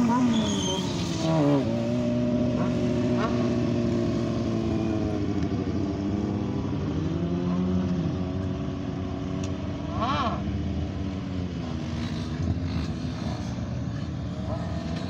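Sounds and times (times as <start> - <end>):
motorcycle engine revs: 0.0 - 8.2, 9.8 - 15.0
motorcycle engines running: 0.0 - 15.0.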